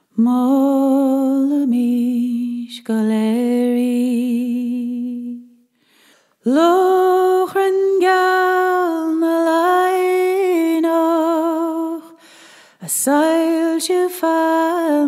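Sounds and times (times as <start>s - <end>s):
woman singing unaccompanied: 0.0s - 5.6s, 6.4s - 12.2s, 12.8s - 15.0s.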